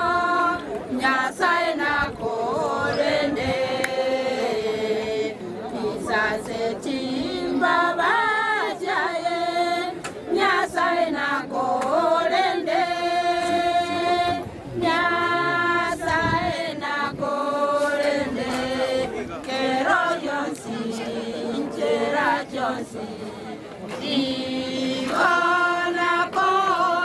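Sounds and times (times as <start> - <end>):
group singing a hymn: 0.0 - 27.0.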